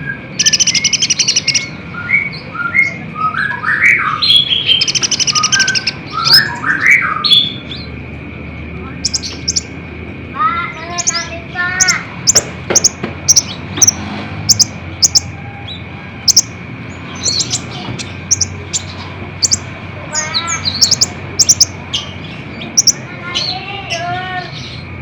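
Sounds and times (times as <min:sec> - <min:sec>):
bird high chirps: 0:00.0 - 0:08.0, 0:09.0 - 0:09.8, 0:10.6 - 0:24.9.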